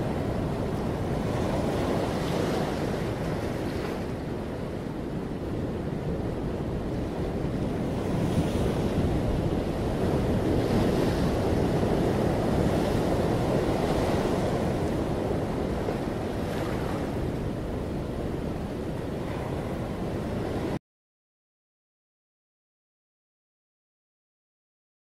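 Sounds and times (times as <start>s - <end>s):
ocean waves: 0.0s - 20.8s
wind: 0.0s - 20.8s.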